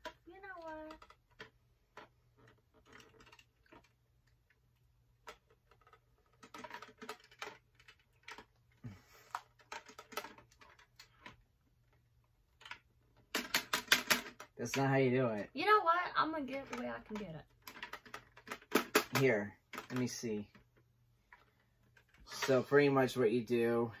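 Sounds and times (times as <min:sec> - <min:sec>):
plastic maze box clicks and taps: 0:00.0 - 0:15.6, 0:16.2 - 0:22.6.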